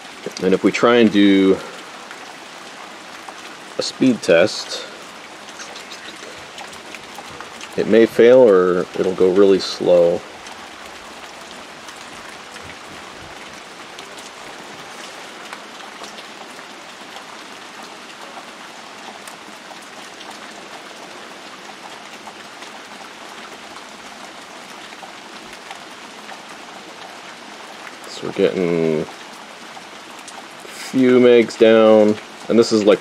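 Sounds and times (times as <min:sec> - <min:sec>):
heavy rain: 0:00.0 - 0:33.0
rain drop ticks: 0:00.0 - 0:33.0.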